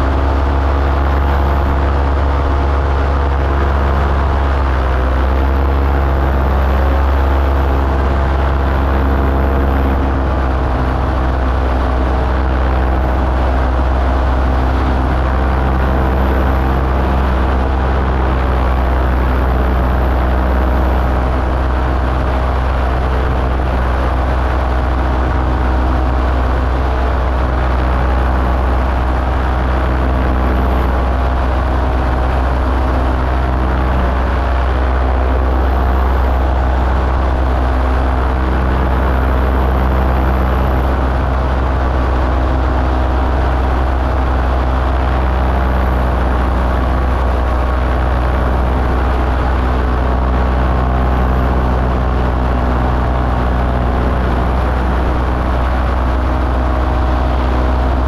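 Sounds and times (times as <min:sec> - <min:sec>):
light aircraft engine humming: 0:00.0 - 0:58.0.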